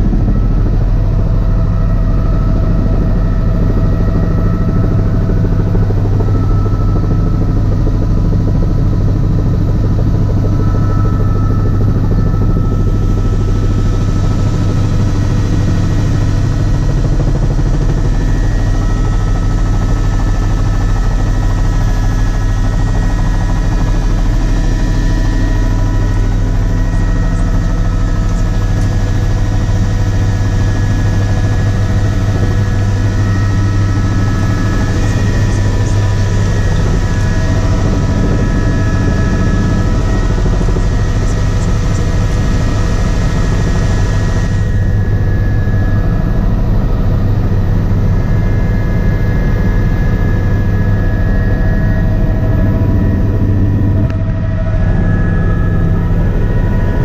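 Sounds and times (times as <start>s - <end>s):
helicopter rotor and engine drone: 0.0s - 57.0s
whining tones: 9.8s - 47.6s, 48.4s - 57.0s.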